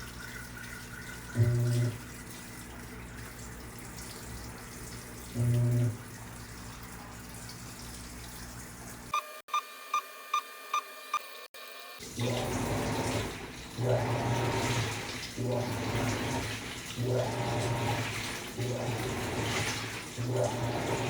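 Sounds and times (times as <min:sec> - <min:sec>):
water running: 0:00.0 - 0:09.1, 0:11.6 - 0:21.0
washing machine running: 0:00.0 - 0:09.2, 0:11.6 - 0:21.0.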